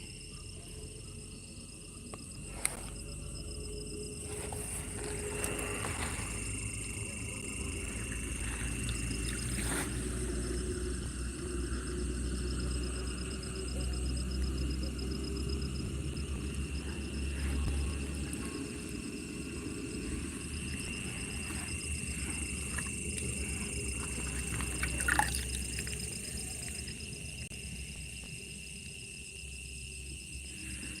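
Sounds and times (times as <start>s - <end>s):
faint water sounds: 0.0s - 29.0s
insects trilling: 0.0s - 31.0s
low rumbling noise: 1.7s - 28.2s.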